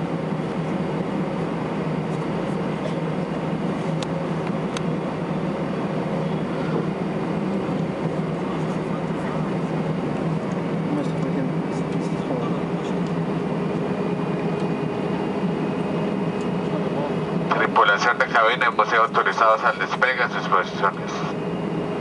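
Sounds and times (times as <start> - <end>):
jet engines idling in cabin: 0.0 - 22.0.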